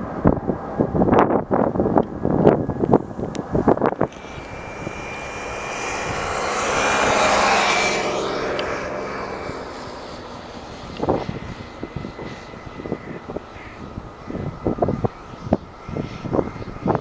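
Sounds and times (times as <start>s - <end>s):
jet airliner passing by: 0.0s - 17.0s
wind buffeting microphone: 0.0s - 17.0s.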